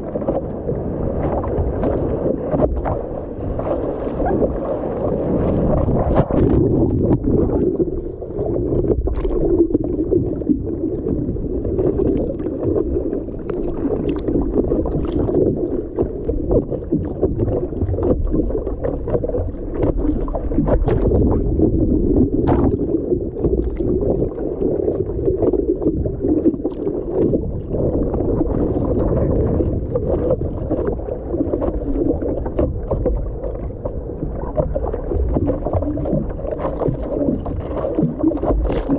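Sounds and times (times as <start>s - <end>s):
paddling splashes: 0.0s - 38.9s
water rushing against surfboard: 0.0s - 38.9s.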